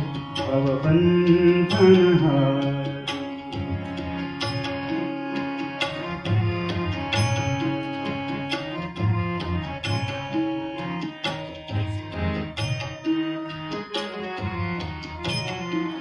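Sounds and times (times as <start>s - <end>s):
harmonium melody: 0.0s - 16.0s
tabla strokes: 0.0s - 16.0s.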